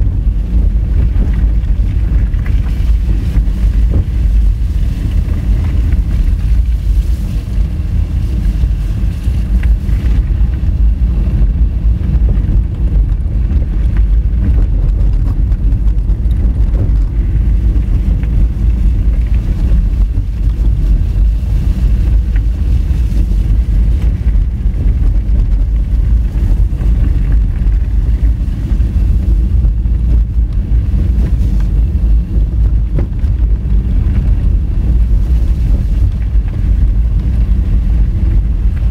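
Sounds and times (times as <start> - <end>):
tyres rumbling on gravel road: 0.0 - 38.9
wind buffeting microphone: 0.0 - 38.9.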